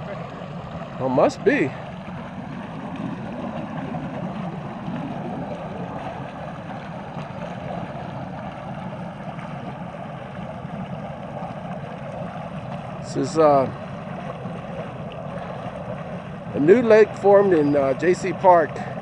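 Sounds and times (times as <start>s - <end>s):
water churning up through floodwater: 0.0s - 19.0s.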